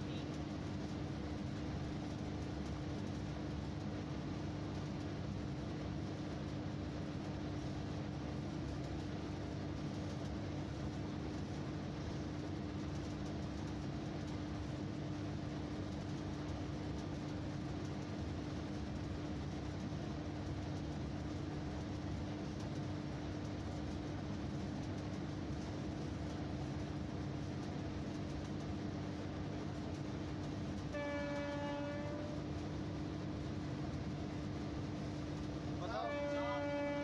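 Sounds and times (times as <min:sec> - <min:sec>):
constant hum: 0:00.0 - 0:37.0
train cab low rumble: 0:00.0 - 0:37.0.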